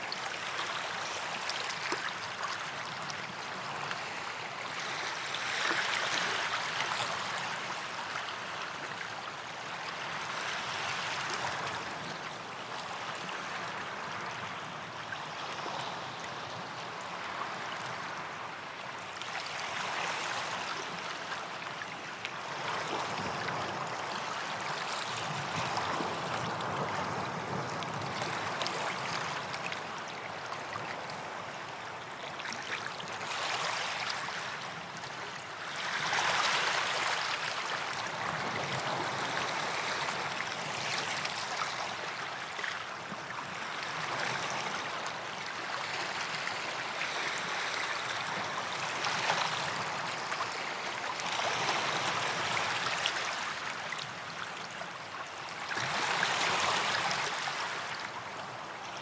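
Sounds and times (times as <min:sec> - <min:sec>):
small waves lapping on sand: 0:00.0 - 0:59.0.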